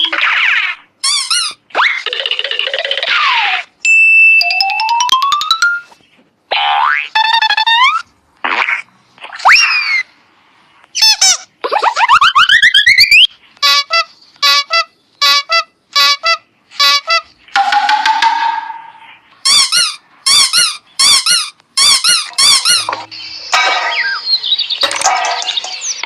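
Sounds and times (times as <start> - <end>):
cartoon squeaks: 0.0 - 3.8, 4.4 - 10.1, 10.9 - 17.4, 18.8 - 24.4
fast warbling chirps: 0.0 - 10.2, 11.0 - 13.3, 17.0 - 26.0.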